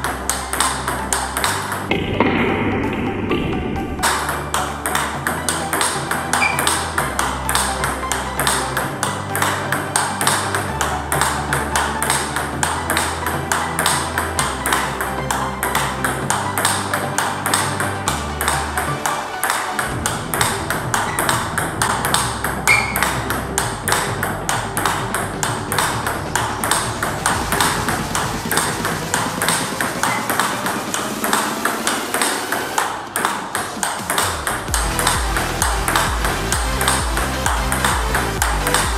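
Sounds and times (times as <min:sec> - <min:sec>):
table tennis ball clicking: 0:00.0 - 0:02.0, 0:04.0 - 0:38.9
electronic music: 0:00.0 - 0:38.9.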